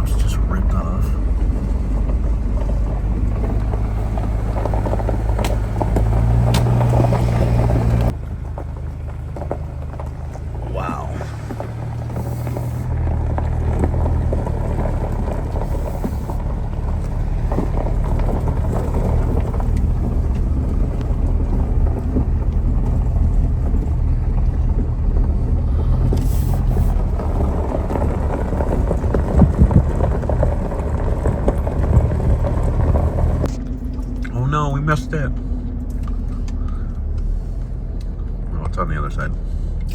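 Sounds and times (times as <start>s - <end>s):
pickup engine and road rumble: 0.0s - 39.9s
vehicle bumps: 0.0s - 39.9s.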